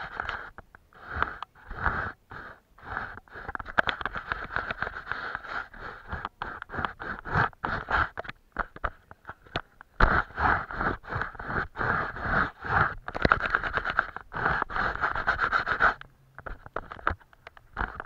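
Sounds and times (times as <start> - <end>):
art tool scratching on paper: 0.0 - 18.0.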